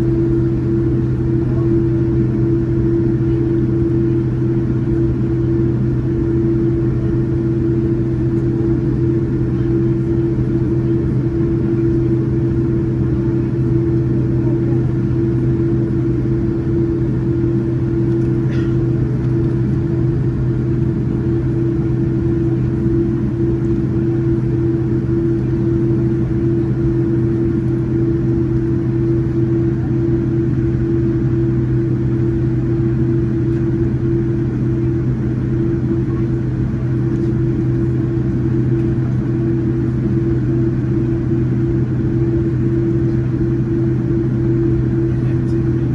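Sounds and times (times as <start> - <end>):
airplane cabin drone: 0.0 - 45.9.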